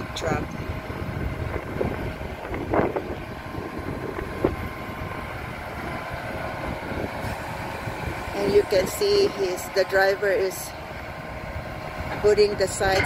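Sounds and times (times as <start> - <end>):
wind buffeting microphone: 0.0 - 10.0, 10.8 - 13.0
diesel engine running: 0.0 - 13.0.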